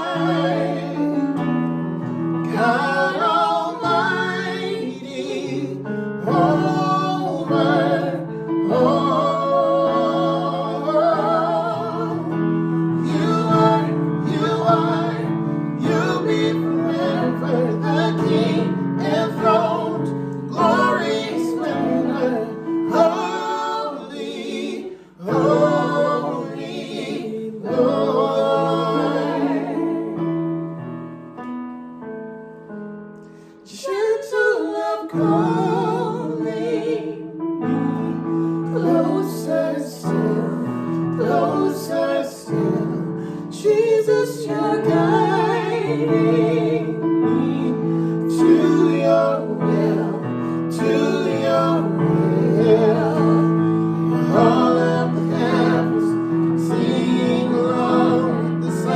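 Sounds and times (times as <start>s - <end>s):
keyboard accompaniment: 0.0s - 33.6s, 35.2s - 58.9s.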